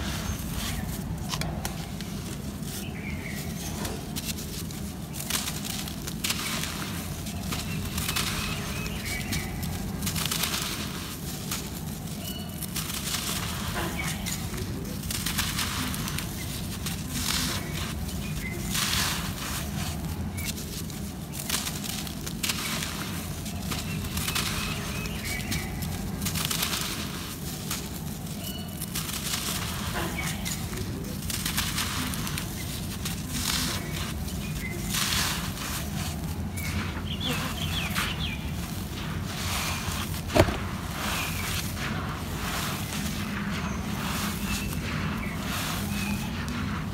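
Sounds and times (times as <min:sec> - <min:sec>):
dirt sifting through fingers: 0:00.0 - 0:46.9
dry soil crunching by hand: 0:00.0 - 0:46.9.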